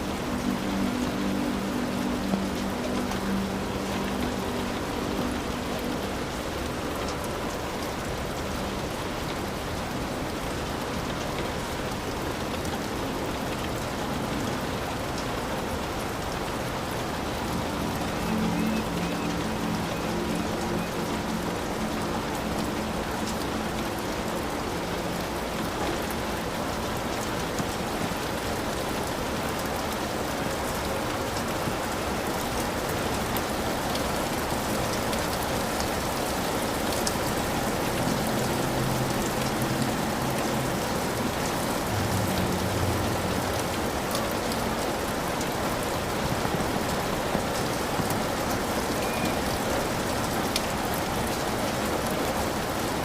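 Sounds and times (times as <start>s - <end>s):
heavy rain on a hut: 0.0s - 53.0s.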